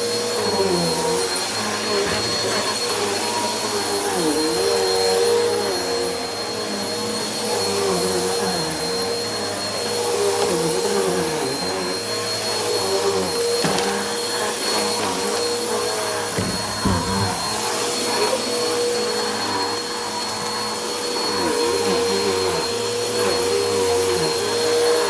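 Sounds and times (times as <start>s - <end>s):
vacuum cleaner running on carpet: 0.0s - 25.0s.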